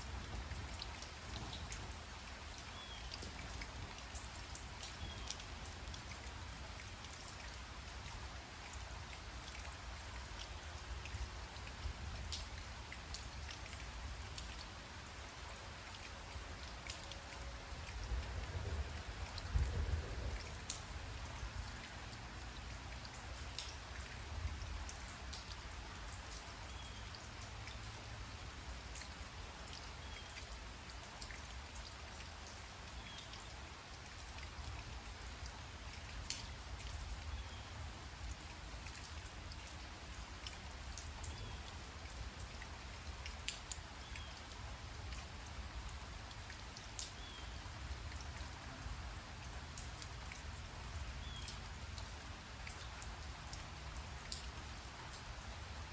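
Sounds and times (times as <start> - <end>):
raindrops ticking close by: 0.0 - 55.9
steady rain falling: 0.0 - 55.9.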